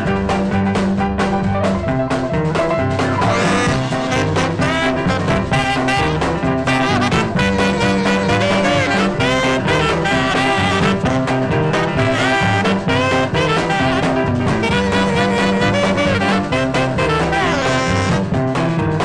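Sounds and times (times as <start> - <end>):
swing jazz with brass: 0.0 - 19.0.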